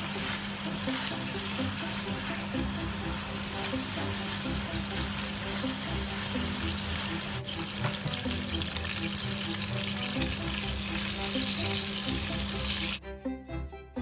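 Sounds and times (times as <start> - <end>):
food sizzling in a frying pan: 0.0 - 13.0
background music: 0.0 - 14.0.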